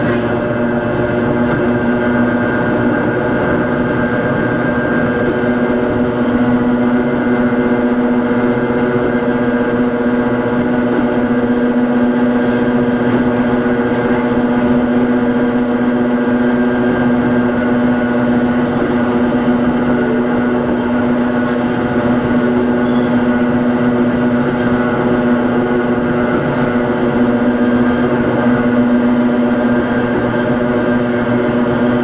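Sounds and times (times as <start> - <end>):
electric railcar motor hum: 0.0 - 32.0.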